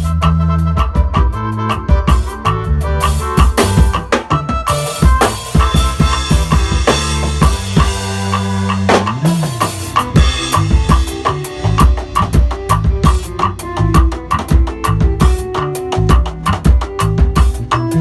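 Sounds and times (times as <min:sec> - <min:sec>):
bass line: 0:00.0 - 0:18.0
drum kit beat: 0:00.0 - 0:18.0.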